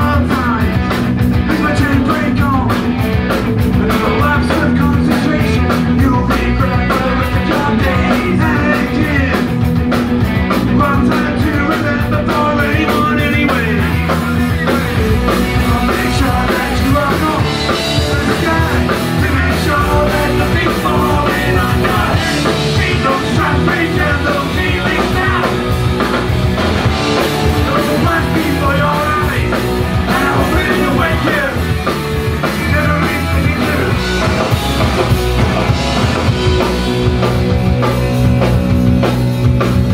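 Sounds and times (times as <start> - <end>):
distorted electric guitars: 0.0 - 39.9
drum kit: 0.0 - 39.9.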